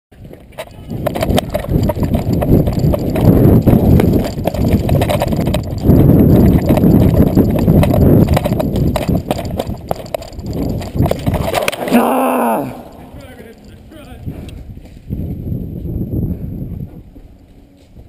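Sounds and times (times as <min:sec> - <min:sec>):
wind rumbling on microphone: 0:00.1 - 0:12.0, 0:12.7 - 0:18.0.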